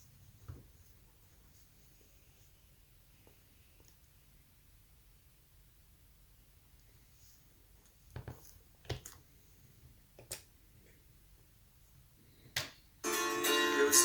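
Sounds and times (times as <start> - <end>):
faint room hush: 0.0 - 14.0.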